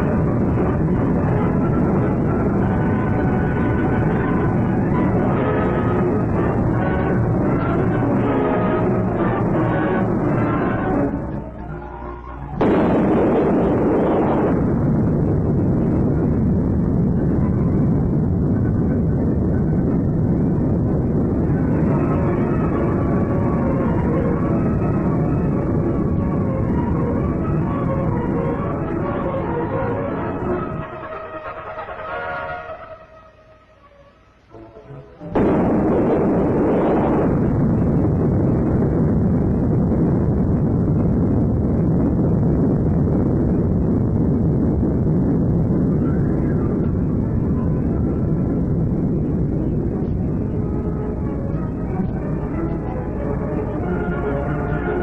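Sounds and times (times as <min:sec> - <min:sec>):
explosion blast low rumble: 0:00.0 - 0:31.2, 0:35.3 - 0:55.0.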